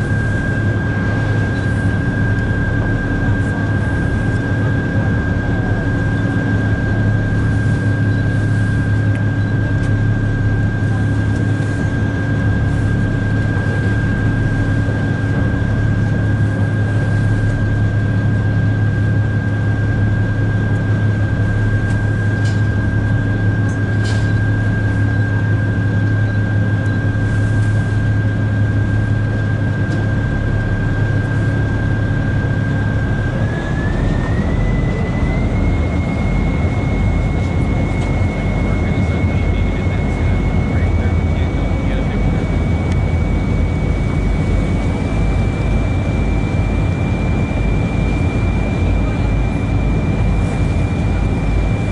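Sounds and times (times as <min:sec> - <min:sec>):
boat engine drone: 0:00.0 - 0:51.9
high engine whine: 0:00.0 - 0:51.9.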